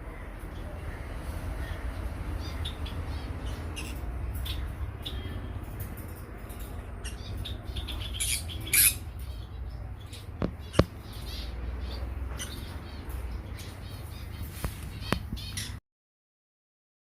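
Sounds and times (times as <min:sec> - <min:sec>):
small birds chirping and squawking: 0:00.0 - 0:15.8.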